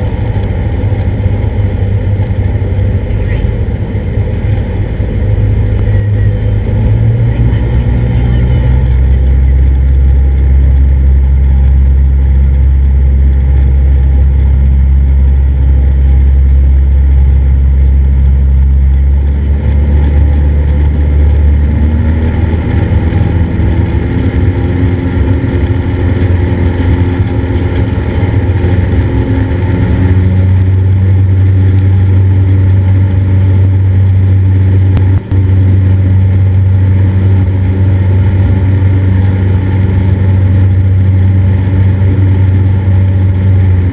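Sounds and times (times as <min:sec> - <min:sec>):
airplane engine and propeller droning: 0:00.0 - 0:43.9.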